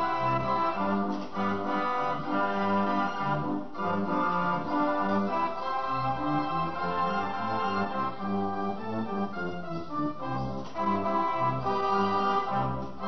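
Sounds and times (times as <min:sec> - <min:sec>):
organ music: 0:00.0 - 0:13.0.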